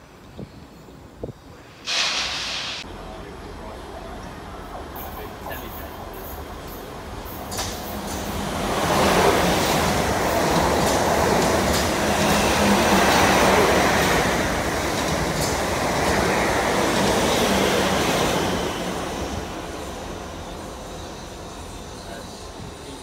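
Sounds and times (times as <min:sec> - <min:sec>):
train wheels rumbling on rail: 0:01.2 - 0:23.0.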